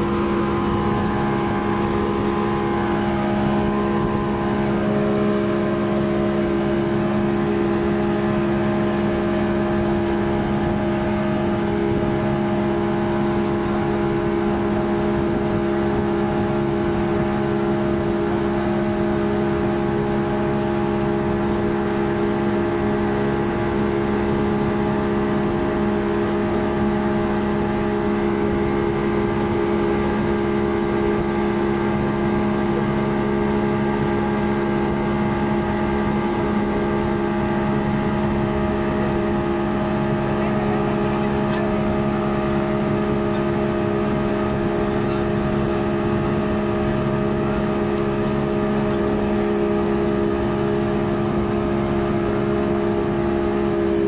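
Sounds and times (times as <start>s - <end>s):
rushing boat wake: 0.0s - 54.0s
speedboat engine droning: 0.0s - 54.0s.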